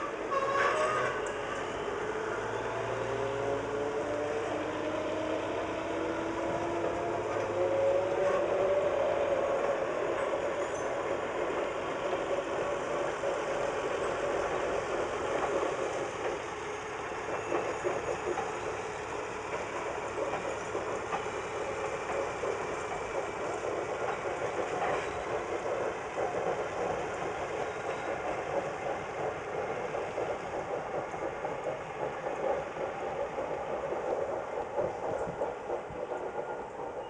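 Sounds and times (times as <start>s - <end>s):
diesel locomotive engine: 0.0s - 37.0s
train wheels on rails: 0.0s - 37.0s.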